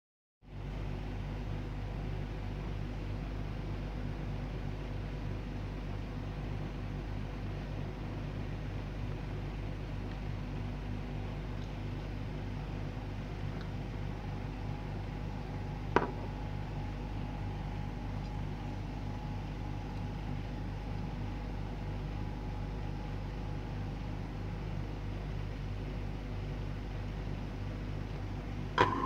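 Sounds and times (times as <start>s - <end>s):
low background hum: 0.5s - 29.0s.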